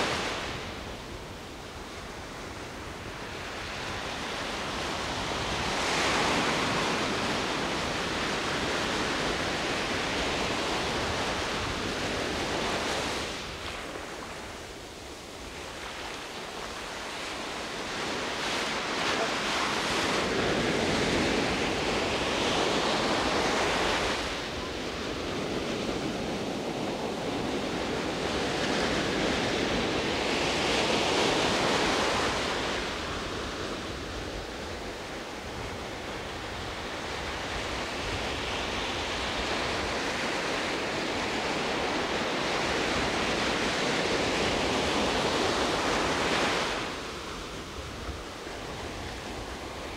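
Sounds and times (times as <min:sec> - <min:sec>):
sea surf breaking: 0:00.0 - 0:49.9.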